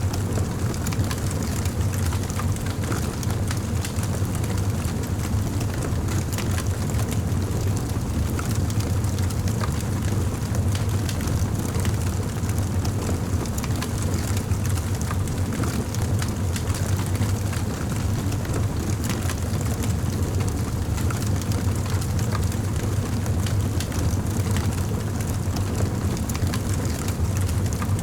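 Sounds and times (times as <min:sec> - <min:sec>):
campfire low rumble: 0:00.0 - 0:28.0.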